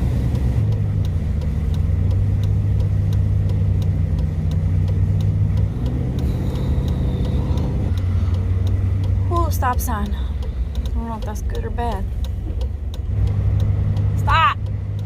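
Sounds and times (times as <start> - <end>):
truck engine droning under load: 0.0 - 15.0.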